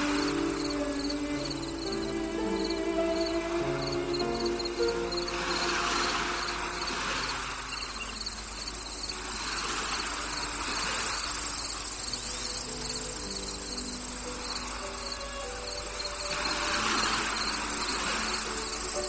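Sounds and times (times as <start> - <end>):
soft music of long held notes: 0.0 - 9.9, 10.5 - 19.0
crickets chirring: 0.0 - 19.0.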